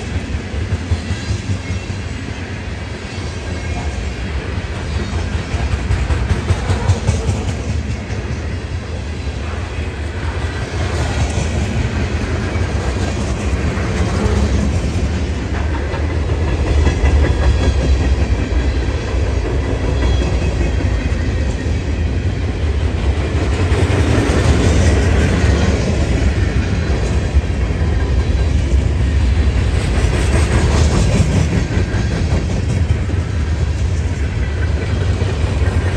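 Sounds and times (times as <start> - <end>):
freight train rumbling past: 0.0 - 35.9.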